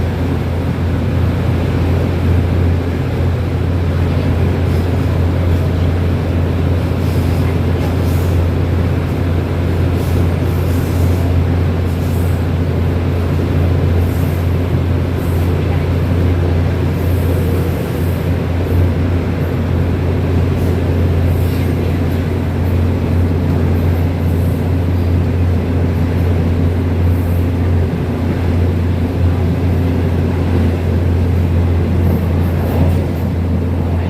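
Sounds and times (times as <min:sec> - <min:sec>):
train running: 0:00.0 - 0:34.0.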